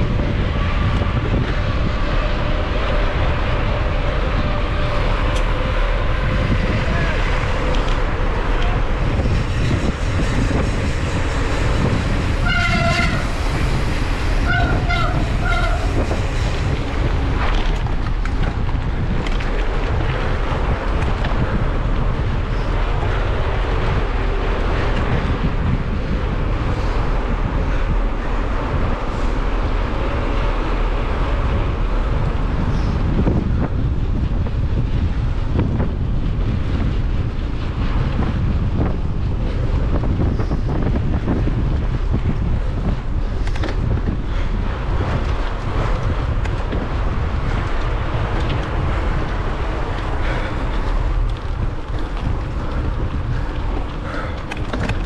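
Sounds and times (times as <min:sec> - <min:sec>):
mountain bike tyres rumbling and rattling: 0:00.0 - 0:55.0
wind buffeting microphone: 0:00.0 - 0:55.0.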